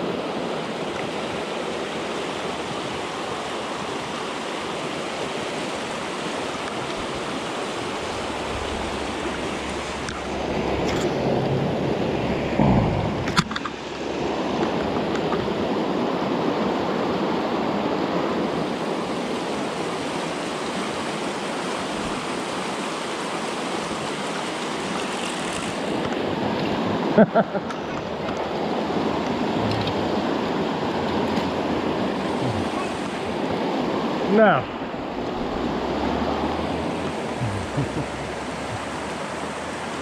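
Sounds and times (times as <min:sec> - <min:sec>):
creek rushing over rocks: 0:00.0 - 0:40.0.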